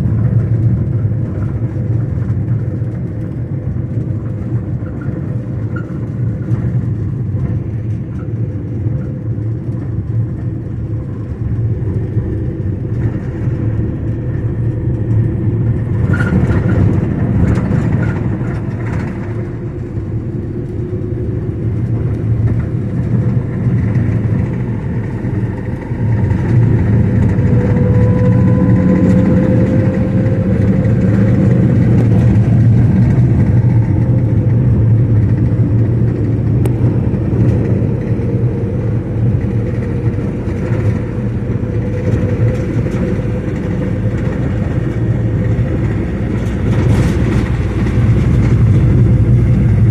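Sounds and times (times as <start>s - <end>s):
vehicle engine and road noise: 0.0s - 49.9s.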